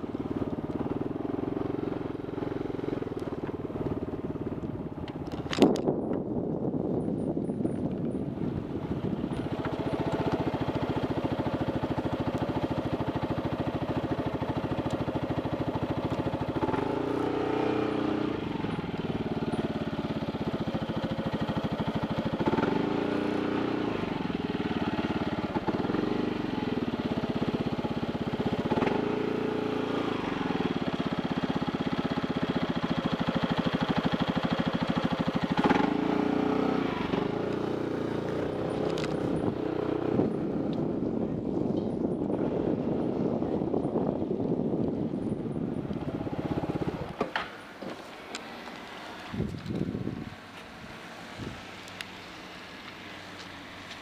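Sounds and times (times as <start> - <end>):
motorcycle engine revving: 0.0 - 5.8, 7.4 - 54.0.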